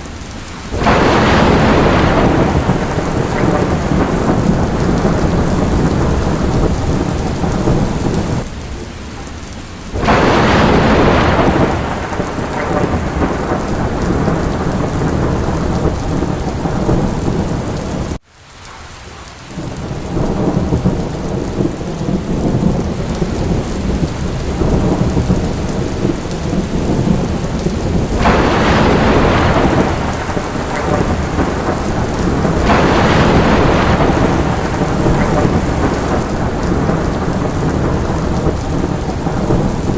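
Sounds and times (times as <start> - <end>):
heavy rain with low rumble: 0.0 - 39.9.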